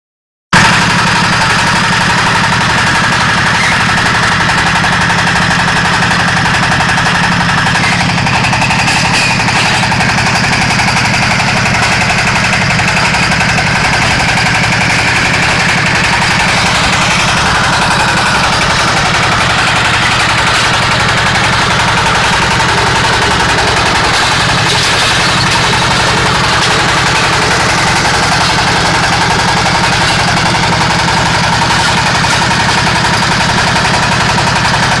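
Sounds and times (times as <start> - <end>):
diesel engine chugging: 0.6 - 35.0
high machine whine: 0.6 - 35.0.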